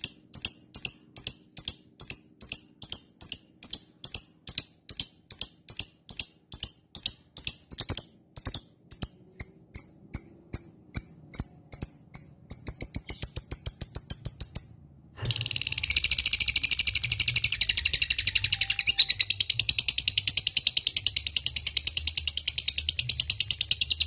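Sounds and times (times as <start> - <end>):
bird sharp high chirps: 0.0 - 24.0
rapid chattering bird trill: 0.0 - 24.0.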